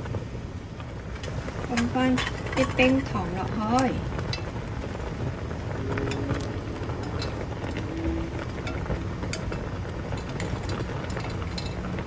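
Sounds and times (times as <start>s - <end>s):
liquid simmering with bubbling hiss: 0.0s - 12.0s.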